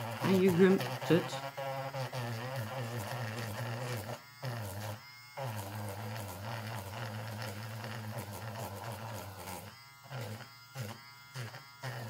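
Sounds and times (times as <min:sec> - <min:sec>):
electric eraser buzzing: 0:00.0 - 0:12.0.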